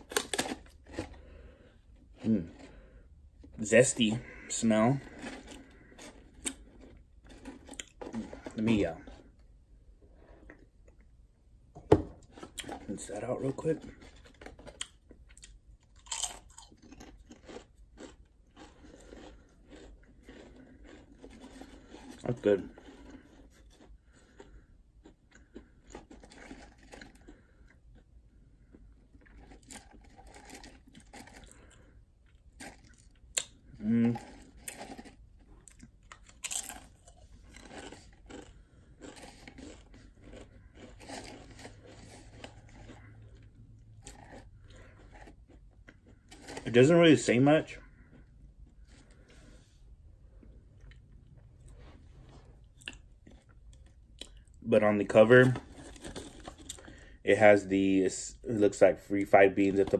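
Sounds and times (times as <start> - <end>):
chewing crunches: 0.0 - 9.4, 12.2 - 49.5, 50.3 - 58.7
crisp crunching: 0.0 - 9.4, 12.2 - 27.8, 28.6 - 49.4, 51.6 - 59.9.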